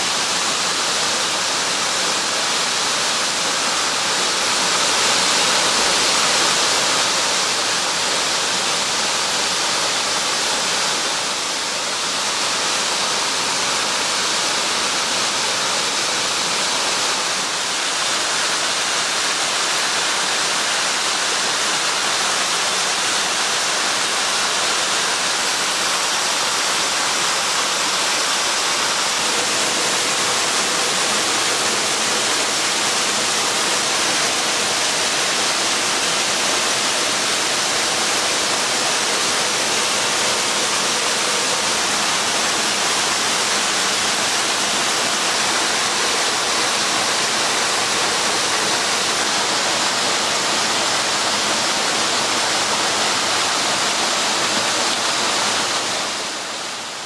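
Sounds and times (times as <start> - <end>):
water cascading over rocks: 0.0 - 57.0
waterfall rushing: 0.0 - 57.0.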